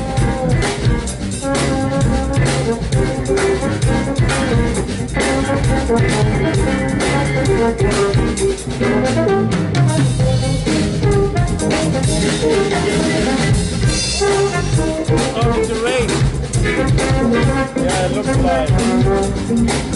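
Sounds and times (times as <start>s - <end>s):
drum kit: 0.0s - 19.9s
jazz band playing: 0.0s - 19.9s.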